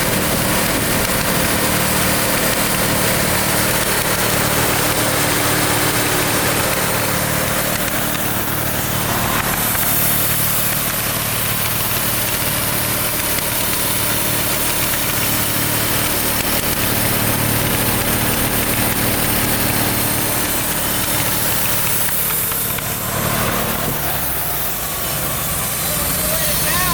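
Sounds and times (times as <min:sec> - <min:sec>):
sawmill engine running: 0:00.0 - 0:26.9.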